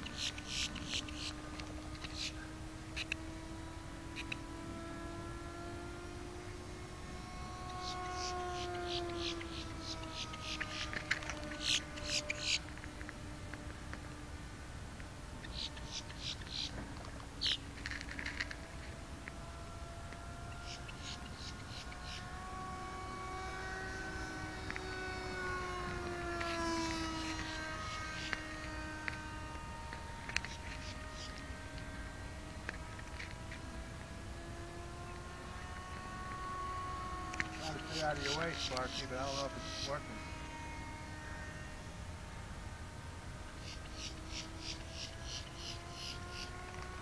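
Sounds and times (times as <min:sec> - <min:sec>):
model airplane motor whine: 0:00.0 - 0:47.0.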